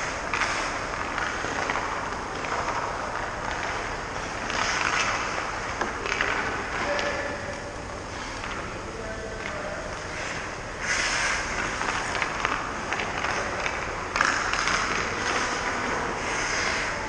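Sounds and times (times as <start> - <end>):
skate blades scraping ice: 0.0 - 7.2, 10.0 - 17.0.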